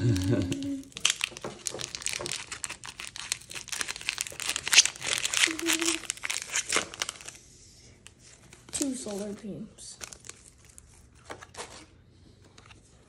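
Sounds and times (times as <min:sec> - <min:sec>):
foil wrapper crinkling and tearing: 0:00.0 - 0:07.4, 0:08.1 - 0:11.9.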